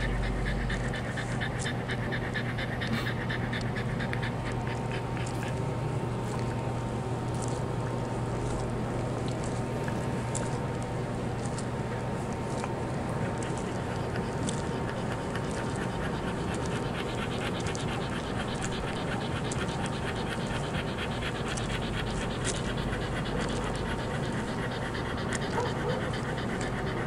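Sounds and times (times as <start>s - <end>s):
dog panting: 0.0s - 27.0s.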